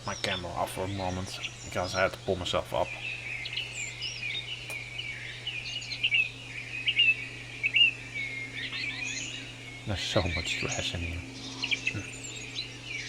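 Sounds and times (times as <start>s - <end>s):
low steady hum: 0.0s - 13.0s
songbirds chirping and warbling: 0.0s - 13.0s.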